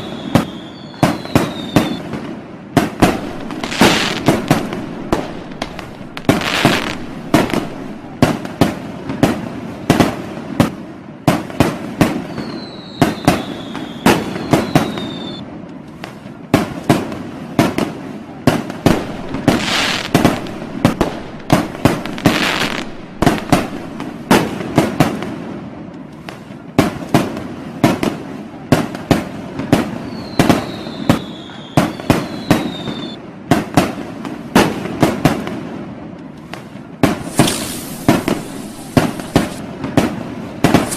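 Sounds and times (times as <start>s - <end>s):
firecrackers banging: 0.0s - 10.7s, 11.3s - 15.4s, 18.5s - 25.4s, 26.3s - 34.0s, 36.6s - 40.9s
fireworks crackling: 0.0s - 40.9s.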